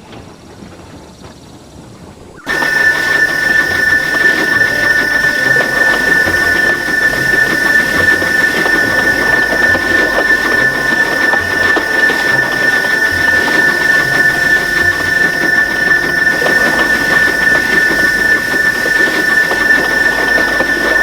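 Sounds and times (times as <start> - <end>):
steam locomotive running: 0.0 - 21.0
steam whistle high note: 2.4 - 21.0.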